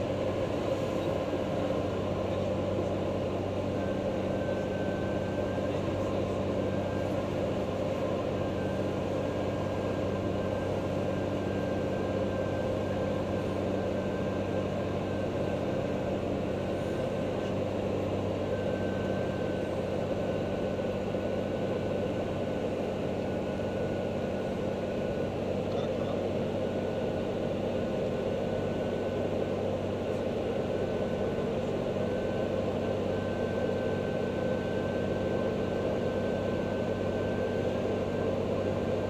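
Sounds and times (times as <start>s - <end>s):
aircraft engine droning: 0.0s - 39.0s.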